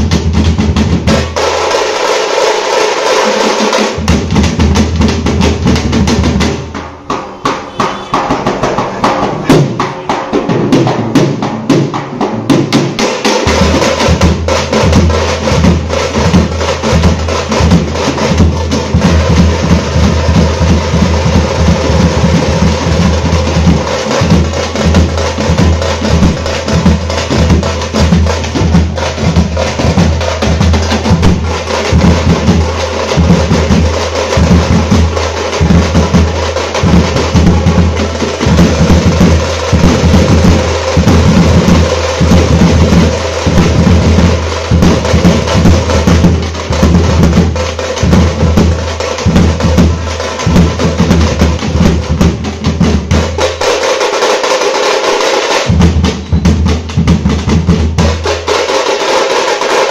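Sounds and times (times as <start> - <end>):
drum troupe playing loudly: 0.0 - 59.9.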